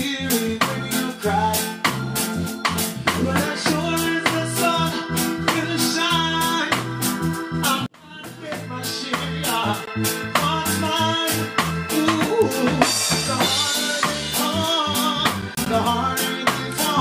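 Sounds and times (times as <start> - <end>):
bass guitar: 0.0 - 17.0
drum kit steady beat: 0.0 - 17.0
man singing: 0.0 - 17.0.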